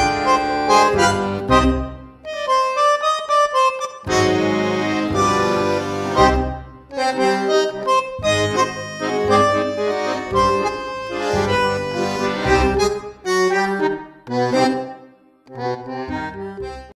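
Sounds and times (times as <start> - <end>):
instrumental background music: 0.0 - 16.9.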